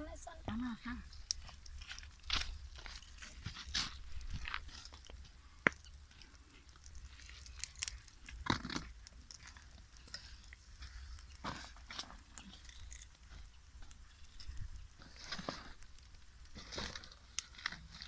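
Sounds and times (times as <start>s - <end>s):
twigs crackling in fire: 0.0s - 18.0s
leaves rustling: 1.1s - 8.8s, 9.4s - 18.0s.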